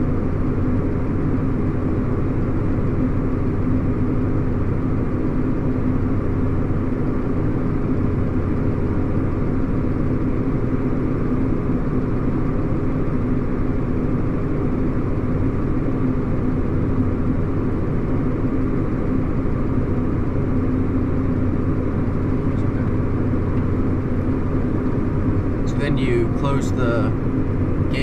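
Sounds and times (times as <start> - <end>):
tractor engine humming: 0.0 - 28.0.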